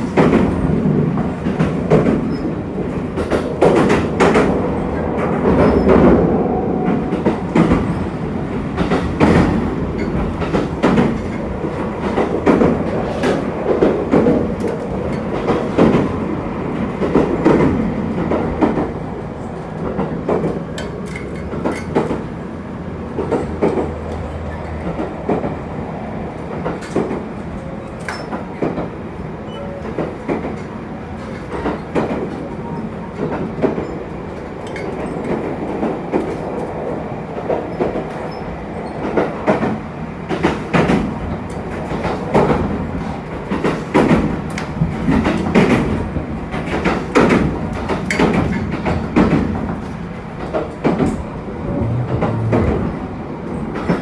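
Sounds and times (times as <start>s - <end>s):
railcar running rumble: 0.0s - 54.0s.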